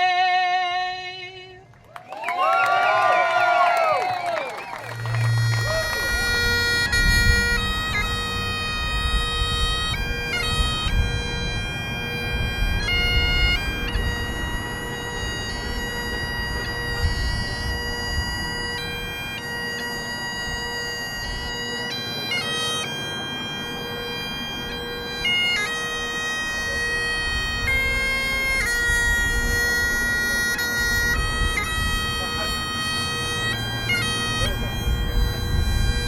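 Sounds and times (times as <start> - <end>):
bagpipes playing: 3.9 - 36.0.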